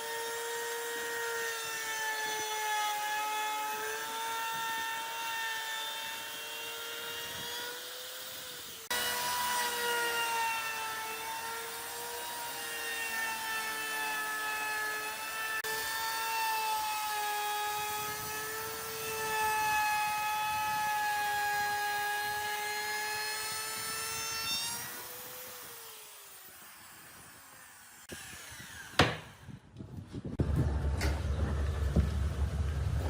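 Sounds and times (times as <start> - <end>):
power tool motor whining: 0.0 - 29.6.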